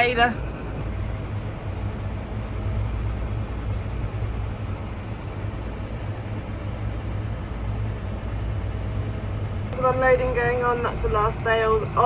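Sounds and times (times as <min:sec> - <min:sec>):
tractor engine rumble: 0:00.0 - 0:12.0.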